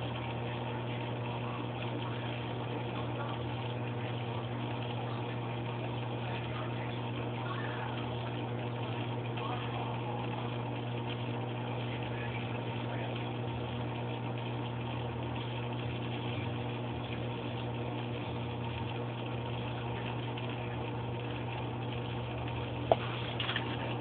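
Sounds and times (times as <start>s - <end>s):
aquarium pump humming: 0.0s - 24.0s.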